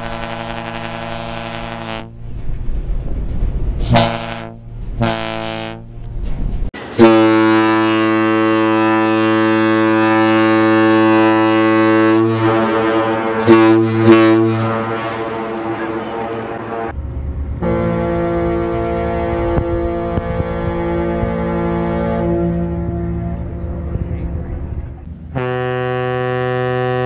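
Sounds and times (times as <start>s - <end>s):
ferry horn blasts: 0.0s - 2.3s, 3.8s - 5.9s, 6.8s - 24.4s, 25.3s - 27.0s.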